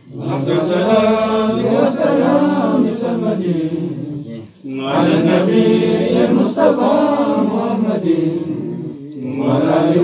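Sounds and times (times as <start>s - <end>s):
men chanting together: 0.0s - 10.0s.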